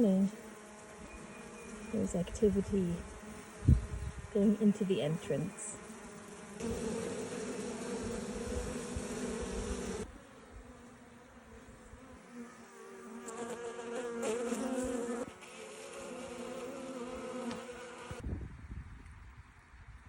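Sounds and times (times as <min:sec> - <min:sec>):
bees buzzing: 0:00.0 - 0:18.2.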